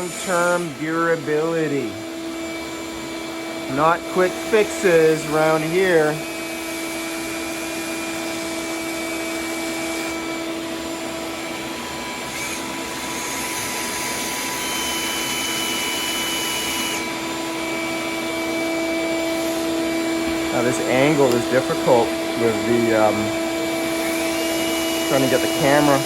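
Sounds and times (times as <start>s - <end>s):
vacuum whining hum: 0.0s - 26.0s.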